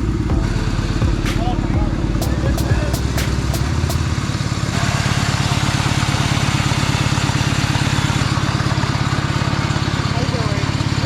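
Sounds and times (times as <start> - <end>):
lawn mower engine idling: 0.0 - 11.0.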